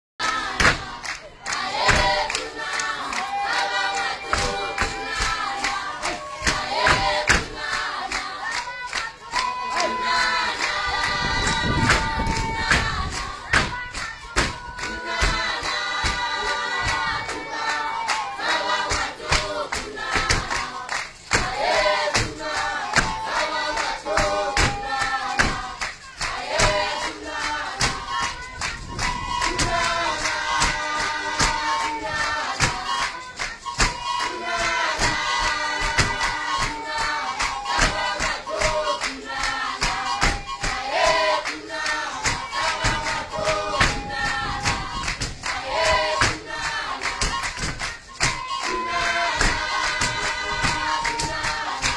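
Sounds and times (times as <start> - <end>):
group of voices singing: 0.2 - 51.9
percussion beat: 0.2 - 51.9.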